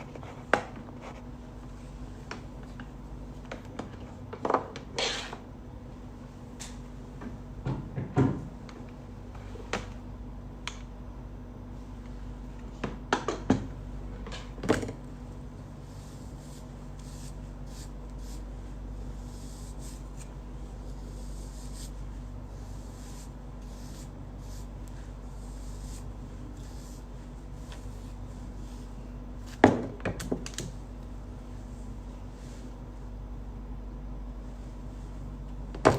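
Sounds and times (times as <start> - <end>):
steady electrical hum: 0.0 - 35.9.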